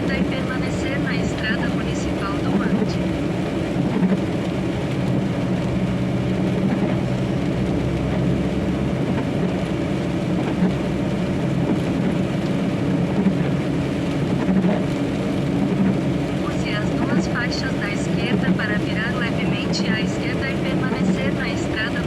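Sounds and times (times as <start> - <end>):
truck diesel engine drone: 0.0 - 22.0.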